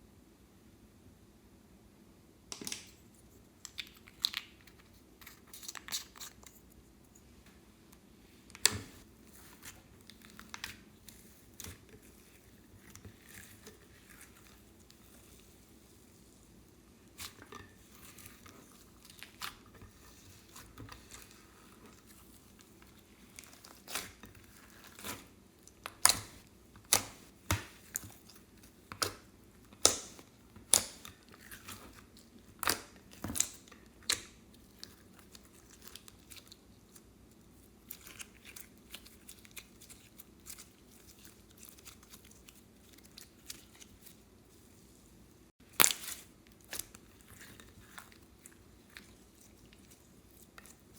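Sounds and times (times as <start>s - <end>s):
fine crackling of slime: 8.6s - 50.9s.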